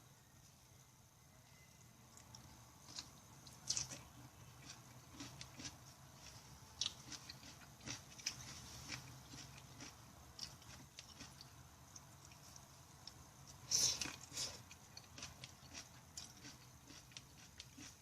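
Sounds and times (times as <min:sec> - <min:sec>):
person chewing food: 0:02.1 - 0:18.0.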